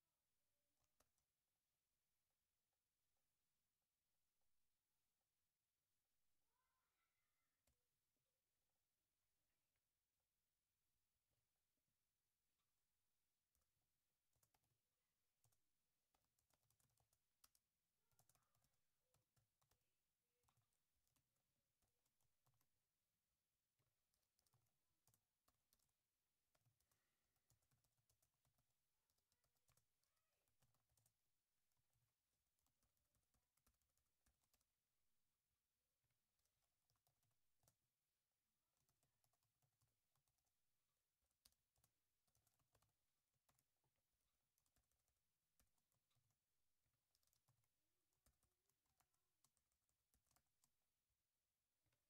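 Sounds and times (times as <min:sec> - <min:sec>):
faint keyboard typing: 0:00.1 - 0:02.5, 0:04.4 - 0:52.0.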